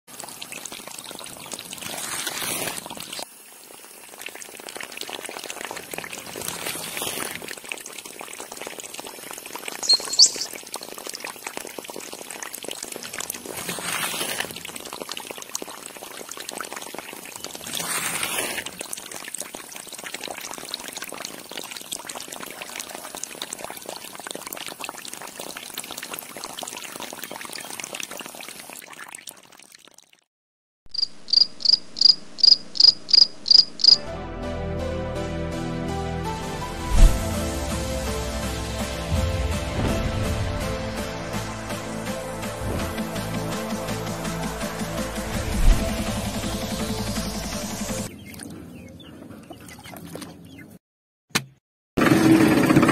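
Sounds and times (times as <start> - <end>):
water pouring and splashing: 0.0 - 30.3, 36.8 - 48.5, 49.6 - 50.6.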